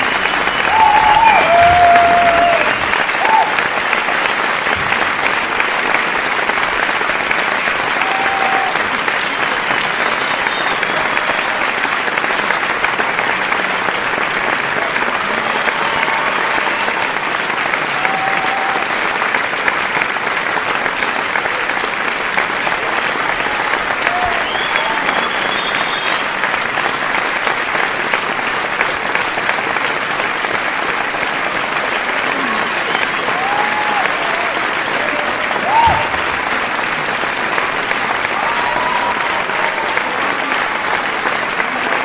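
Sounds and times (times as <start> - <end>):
crowd applauding: 0.0 - 42.0.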